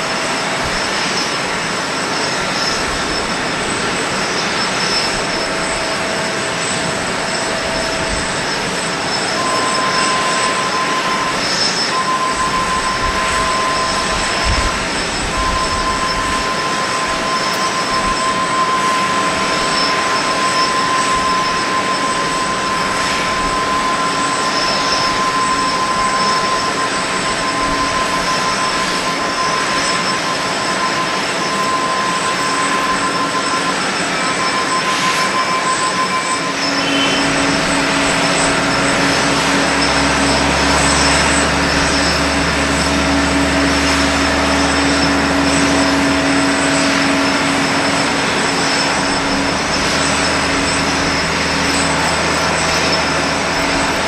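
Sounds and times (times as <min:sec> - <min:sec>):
jet aircraft whining rush: 0:00.0 - 0:54.0.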